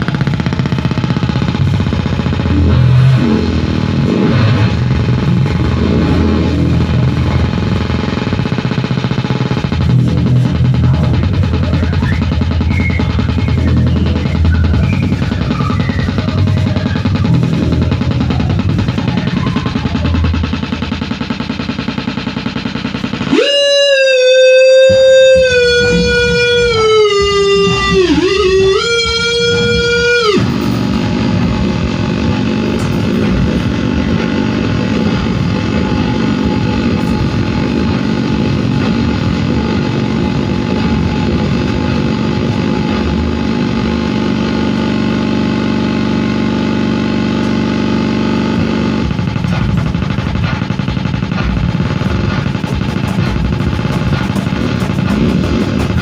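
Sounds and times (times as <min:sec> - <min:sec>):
loud wavering pitched tone: 0:00.0 - 0:53.9
dense distorted noise music: 0:00.0 - 0:56.0.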